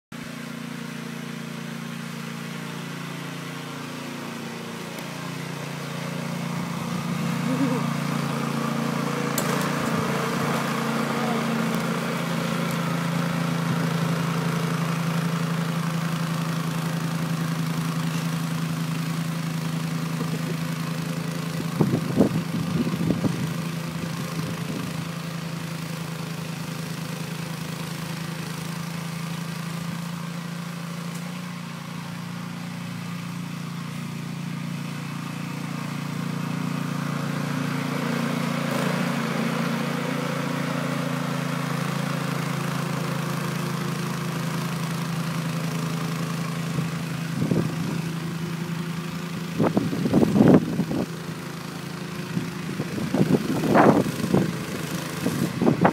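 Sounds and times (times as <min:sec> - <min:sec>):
snowblower engine running: 0:00.1 - 0:55.9.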